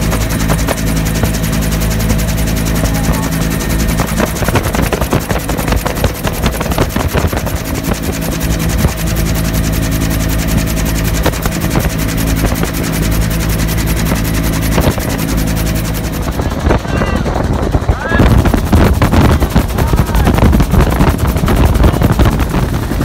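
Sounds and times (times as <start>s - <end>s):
helicopter turbine and rotor: 0.0s - 23.0s
wind buffeting microphone: 0.0s - 23.0s.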